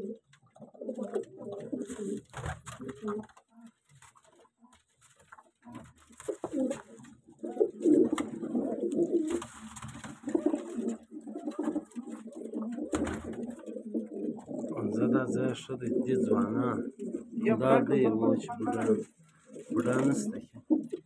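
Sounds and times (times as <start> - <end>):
pigeons cooing: 0.0 - 4.6, 5.6 - 21.0.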